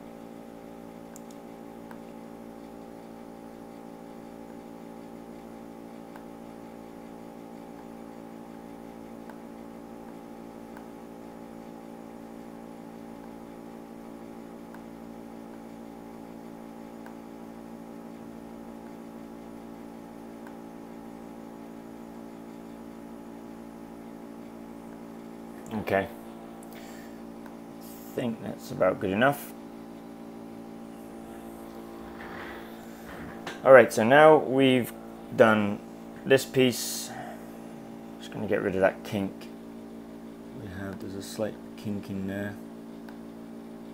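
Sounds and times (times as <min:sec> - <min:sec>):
electrical mains hum: 0:00.0 - 0:43.9.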